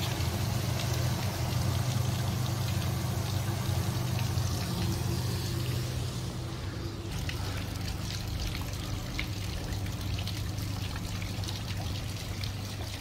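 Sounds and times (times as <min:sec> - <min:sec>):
steady low hum: 0:00.0 - 0:13.0
water splashing from buckets: 0:00.0 - 0:13.0.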